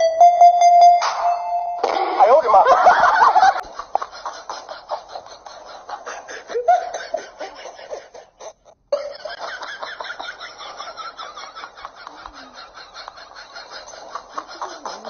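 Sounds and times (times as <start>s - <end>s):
person laughing: 2.2s - 15.0s.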